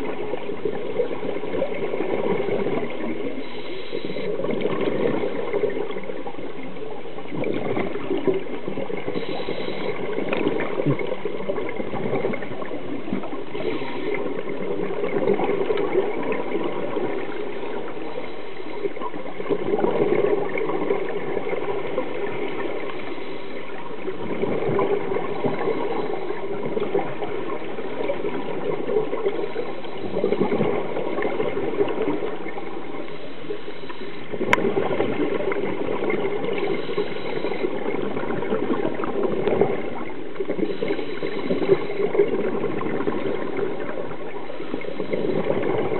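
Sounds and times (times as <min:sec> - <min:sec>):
exhaled bubbles gurgling underwater: 0:00.0 - 0:45.9
faint constant hum: 0:00.0 - 0:45.9
watery background: 0:00.0 - 0:45.9.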